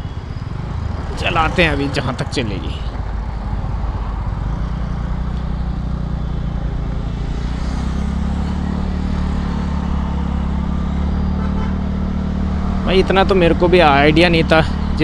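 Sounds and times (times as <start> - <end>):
road noise: 0.0 - 15.0
scooter engine running: 0.0 - 15.0
wind: 0.0 - 15.0.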